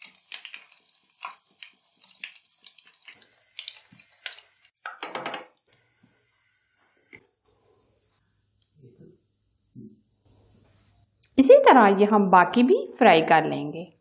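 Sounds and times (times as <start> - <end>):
hot oil sizzling and popping: 0.0 - 11.4.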